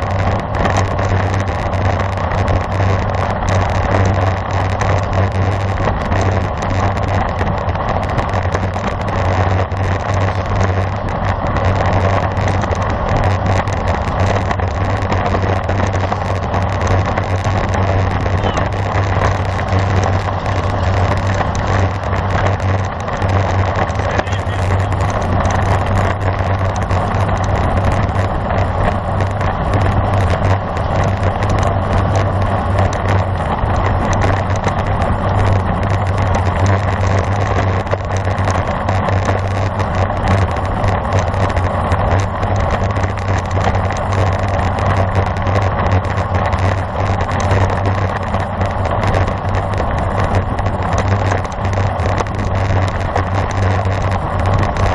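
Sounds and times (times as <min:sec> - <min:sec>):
low rumble: 0:00.0 - 0:54.9
wind rushing on microphone: 0:00.0 - 0:54.9.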